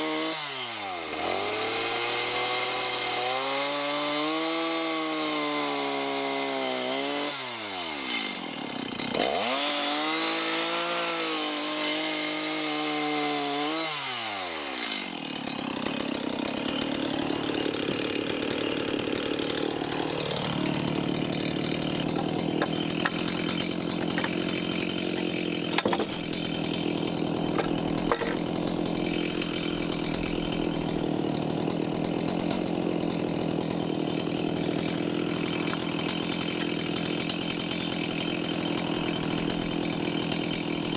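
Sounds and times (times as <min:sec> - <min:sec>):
chainsaw cutting wood: 0:00.0 - 0:40.9
chainsaw engine revving: 0:00.0 - 0:40.9.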